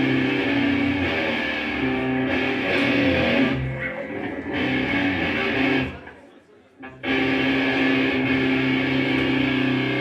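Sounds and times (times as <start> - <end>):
distorted electric guitar chords: 0.0 - 6.0, 6.8 - 10.0.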